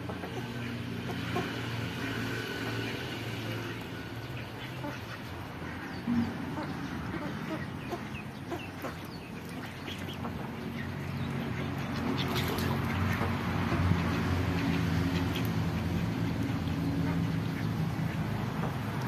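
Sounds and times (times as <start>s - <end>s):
poultry clucking: 3.4s - 19.0s.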